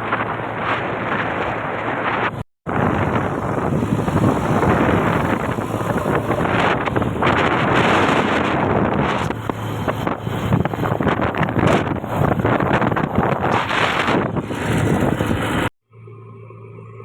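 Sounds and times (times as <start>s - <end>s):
wind buffeting microphone: 0.0s - 15.7s
heavy machinery diesel engine: 0.0s - 17.0s.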